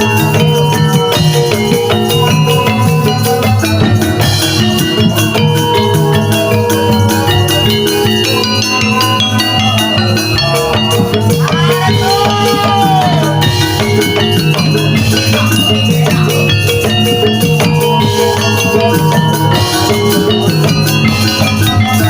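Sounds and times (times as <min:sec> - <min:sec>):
metallophone notes ringing: 0:00.0 - 0:22.0
steady drum beat: 0:00.0 - 0:22.0.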